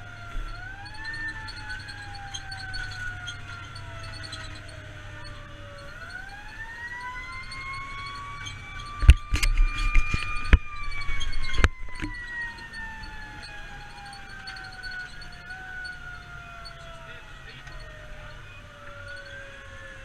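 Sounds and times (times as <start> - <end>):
fire engine siren wailing: 0.0 - 20.0
low engine rumble: 0.0 - 20.0.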